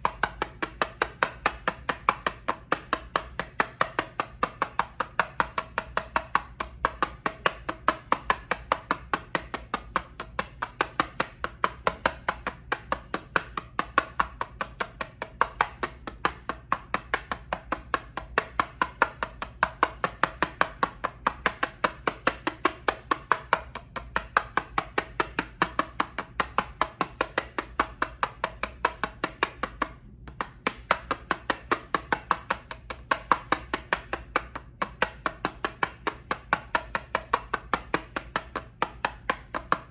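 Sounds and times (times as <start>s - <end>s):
tapping on eyeshadow palette: 0.0s - 39.9s.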